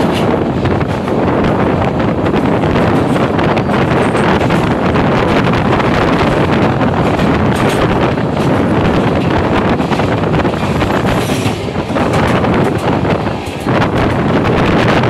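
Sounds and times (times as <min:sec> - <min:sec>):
train wheels rumbling: 0:00.0 - 0:15.0
wind buffeting microphone: 0:00.0 - 0:15.0.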